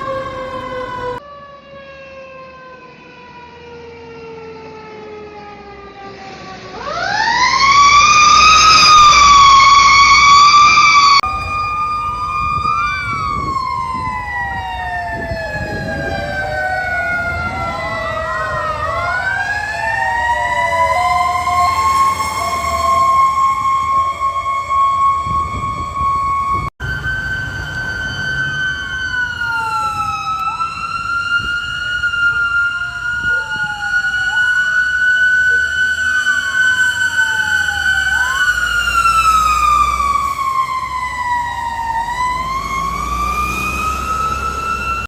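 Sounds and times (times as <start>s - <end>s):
fire engine sirens wailing: 0.0s - 45.0s.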